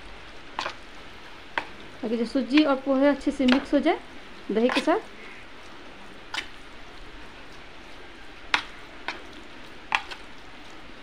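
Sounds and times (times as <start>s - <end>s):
spoon stirring thick batter: 0.4s - 11.0s.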